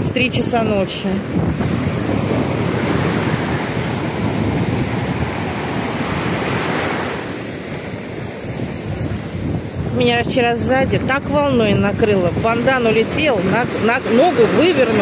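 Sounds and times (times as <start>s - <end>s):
ocean surf breaking: 0.0s - 15.0s
wind on microphone: 0.0s - 15.0s.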